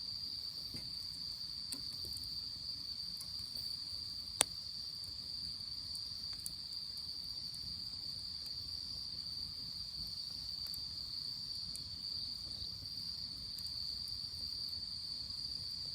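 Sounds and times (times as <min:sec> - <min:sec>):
crickets trilling: 0:00.0 - 0:15.9
wood fire crackling: 0:00.0 - 0:15.9.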